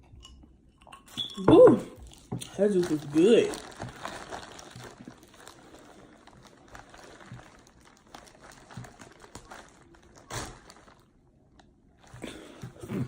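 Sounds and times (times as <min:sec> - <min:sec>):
food crinkling and clicking: 0:02.0 - 0:12.8.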